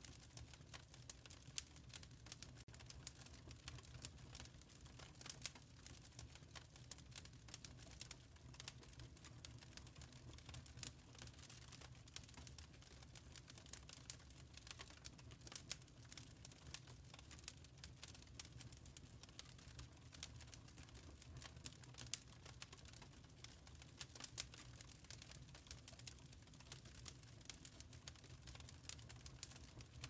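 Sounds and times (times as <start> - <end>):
fire pops and snaps: 0.1 - 30.0.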